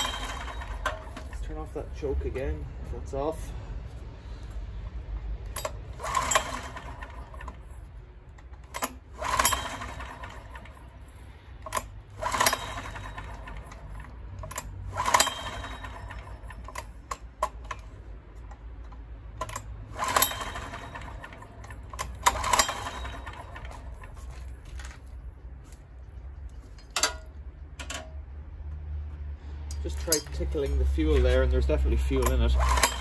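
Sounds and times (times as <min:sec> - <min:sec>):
generator recoil starter pulls: 0:00.0 - 0:02.0, 0:04.4 - 0:25.2, 0:26.5 - 0:28.2, 0:29.7 - 0:33.0.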